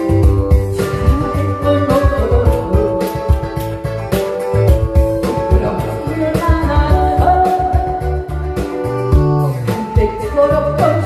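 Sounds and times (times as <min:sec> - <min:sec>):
woman singing into a microphone: 0:00.0 - 0:03.5, 0:05.1 - 0:11.0
backing track with steady beat: 0:00.0 - 0:11.0.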